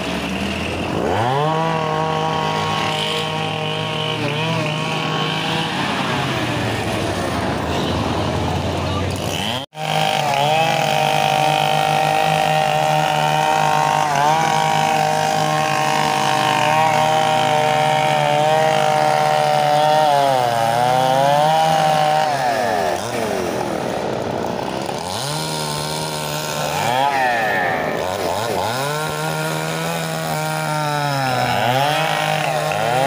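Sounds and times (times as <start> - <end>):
chainsaw cutting wood: 0.0 - 33.0.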